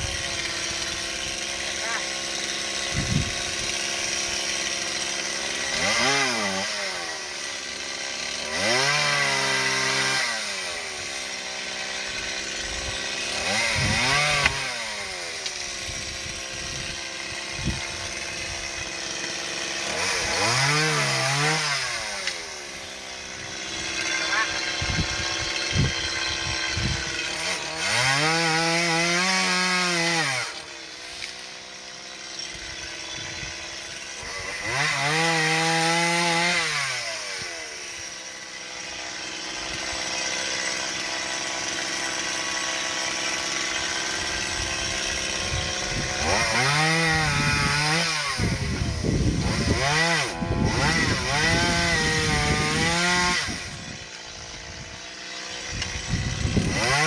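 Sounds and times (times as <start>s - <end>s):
chainsaw cutting branches: 0.0s - 57.0s.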